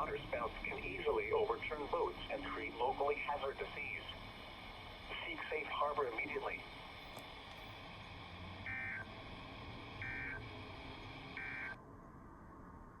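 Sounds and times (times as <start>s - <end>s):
radio receiver hiss: 0.0s - 11.8s.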